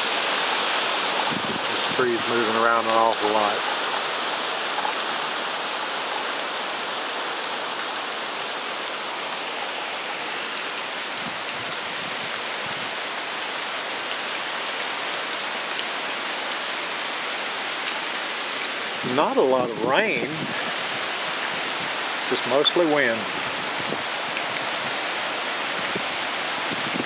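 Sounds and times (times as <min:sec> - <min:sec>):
gusting wind through trees: 0:00.0 - 0:27.0
light rain: 0:00.0 - 0:27.0.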